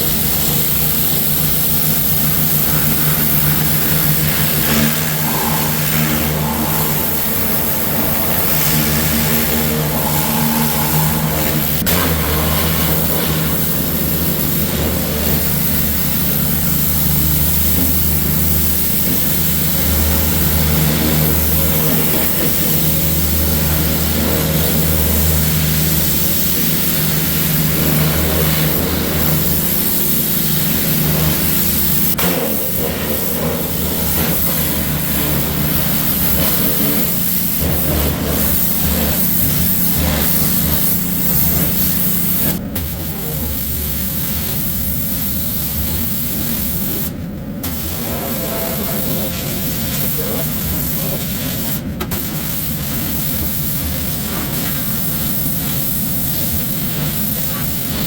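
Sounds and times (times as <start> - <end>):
pressure washer engine humming: 0.0 - 58.0
water spray hissing: 0.0 - 58.0.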